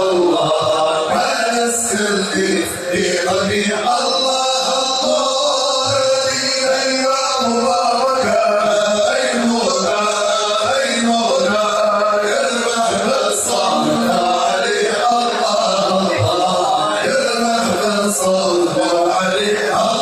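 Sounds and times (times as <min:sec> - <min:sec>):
group chanting devotional song: 0:00.0 - 0:20.0.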